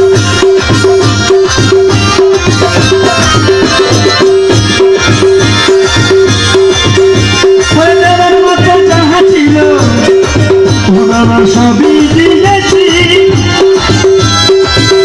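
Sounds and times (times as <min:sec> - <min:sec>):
keyboard melody: 0:00.0 - 0:15.0
tabla playing: 0:00.0 - 0:15.0.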